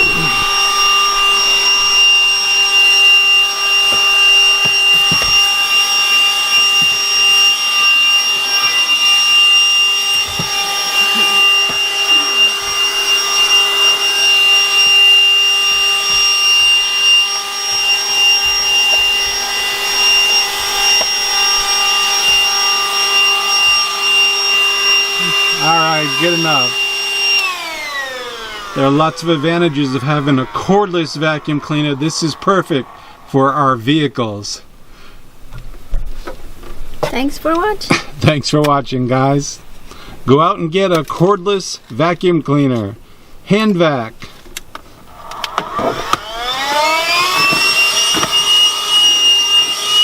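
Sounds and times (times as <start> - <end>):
handheld vacuum cleaner whine: 0.0 - 35.9, 44.2 - 50.0.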